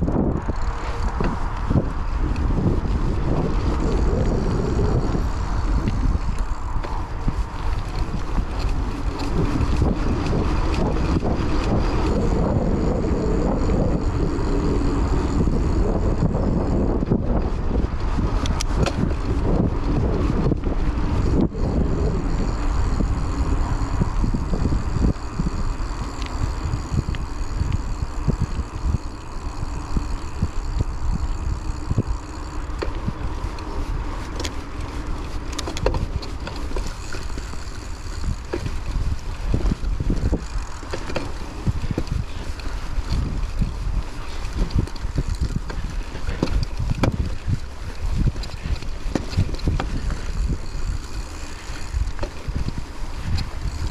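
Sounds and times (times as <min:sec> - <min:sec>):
bike knocking and rattling: 0:00.0 - 0:53.9
rumble of bike tyres: 0:00.0 - 0:53.9
wind buffeting microphone: 0:00.0 - 0:53.9.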